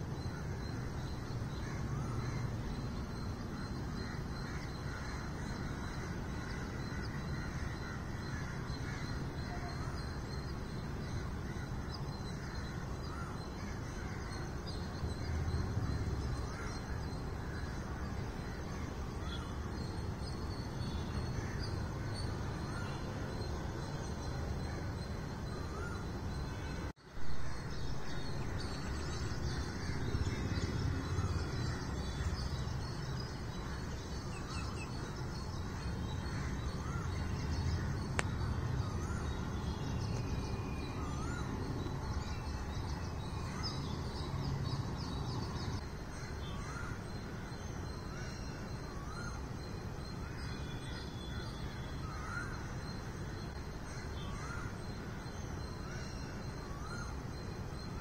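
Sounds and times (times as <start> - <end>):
birds calling and chirping: 0.0 - 58.0
low city rumble: 0.0 - 58.0.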